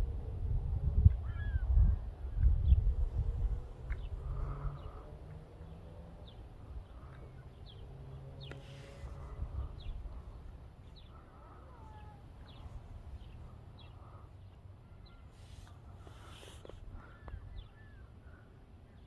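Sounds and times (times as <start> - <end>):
small birds chirping: 2.3 - 19.0.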